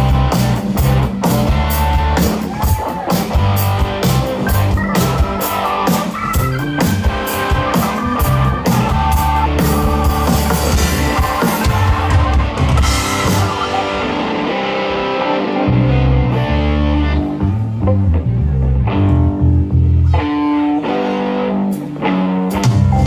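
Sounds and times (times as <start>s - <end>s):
bass guitar: 0.0s - 23.0s
electric guitar: 0.0s - 23.0s.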